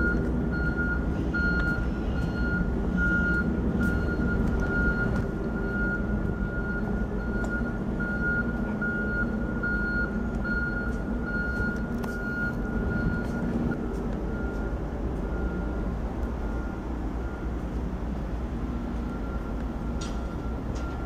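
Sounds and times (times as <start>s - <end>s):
locomotive engine rumbling: 0.0s - 21.0s.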